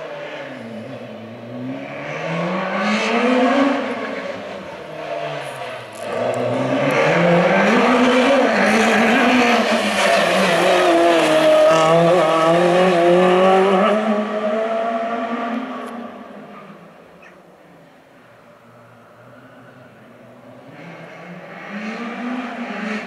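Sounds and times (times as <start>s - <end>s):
rally car engine revving: 0.0s - 16.8s, 20.4s - 23.0s.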